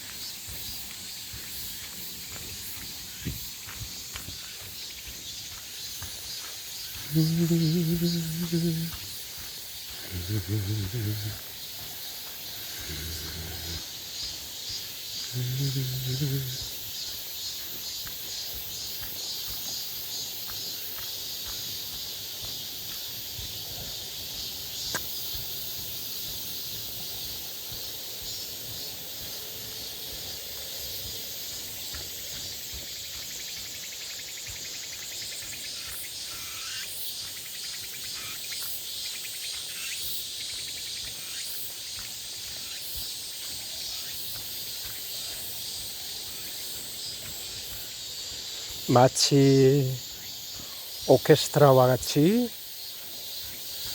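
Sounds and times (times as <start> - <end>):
cicadas and crickets buzzing: 0.0 - 53.9.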